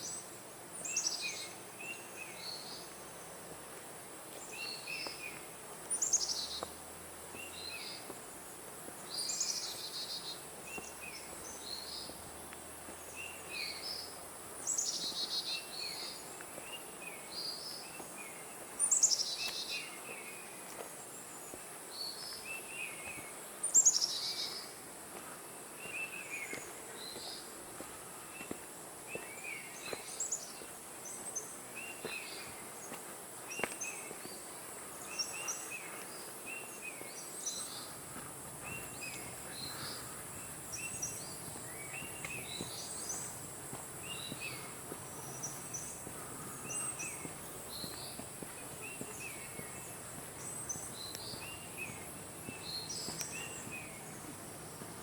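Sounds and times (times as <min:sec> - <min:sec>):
forest birds chirping: 0:00.0 - 0:55.0.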